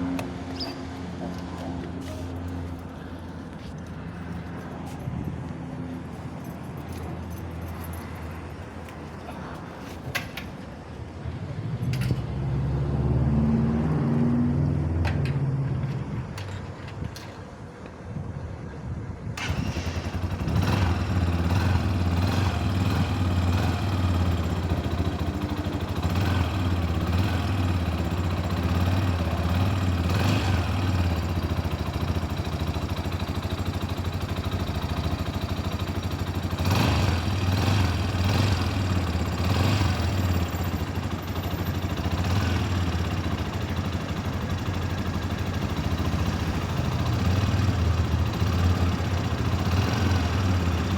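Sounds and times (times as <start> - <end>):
motorcycle engine starting and idling: 0.0 - 5.0, 11.7 - 17.6, 19.3 - 50.9.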